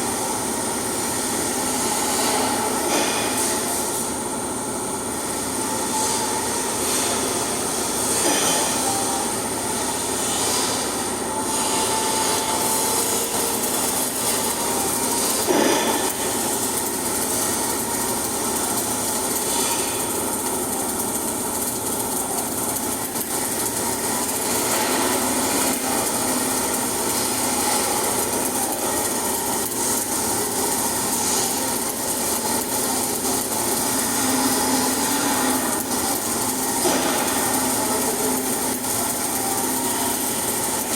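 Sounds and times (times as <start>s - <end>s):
welding arc crackling: 0.0s - 40.9s.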